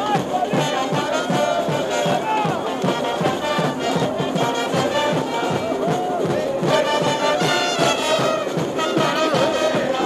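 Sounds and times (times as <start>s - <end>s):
music with quick beat: 0.0s - 10.0s.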